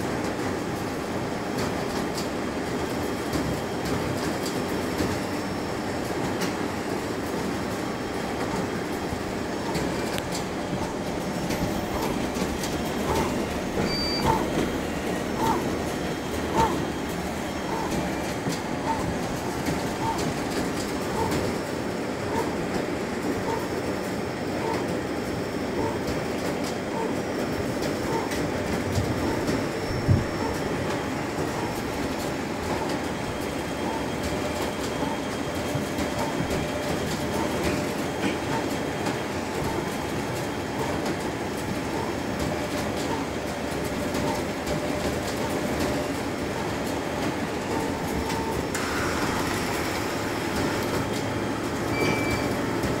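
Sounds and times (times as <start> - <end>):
inkjet printer whirring: 0.0 - 53.0.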